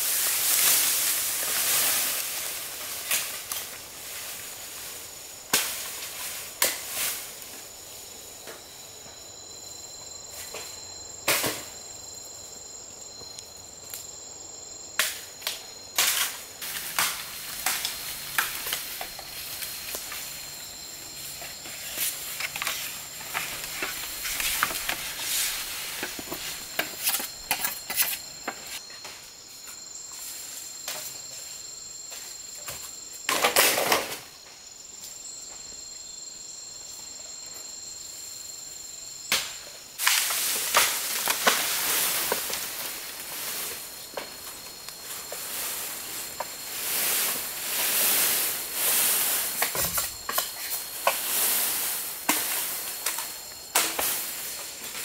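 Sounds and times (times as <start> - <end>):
high-pitched insect chirping: 0.0 - 55.0.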